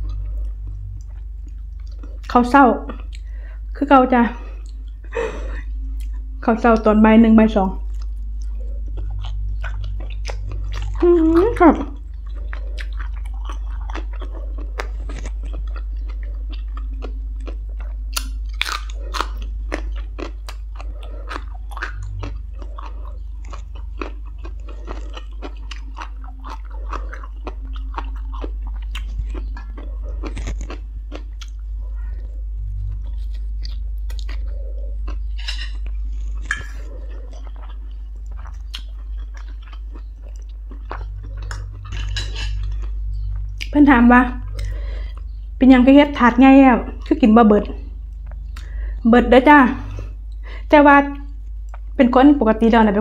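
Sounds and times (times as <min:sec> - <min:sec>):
person chewing and crunching food: 0:00.0 - 0:52.0
low hum: 0:00.0 - 0:53.0.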